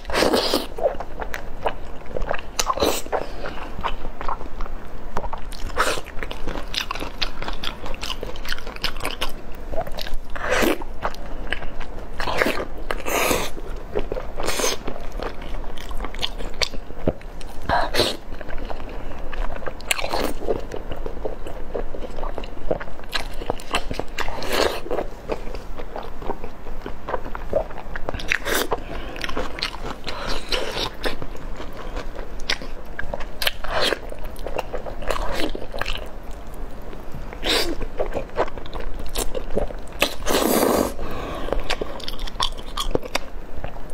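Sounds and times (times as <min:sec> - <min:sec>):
chewing food: 0:00.0 - 0:43.9.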